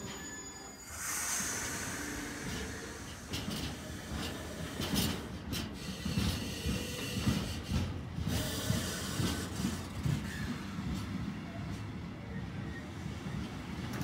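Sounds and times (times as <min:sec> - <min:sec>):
freight train wagons clunking: 0:01.4 - 0:14.0.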